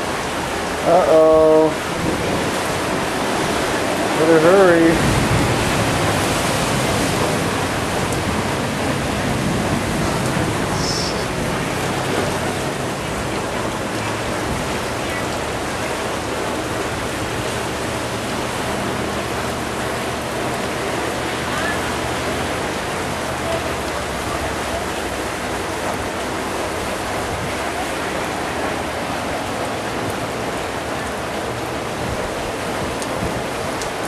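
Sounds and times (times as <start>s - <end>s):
heavy rain hissing: 0.0s - 34.0s
rushing floodwater: 0.0s - 34.0s.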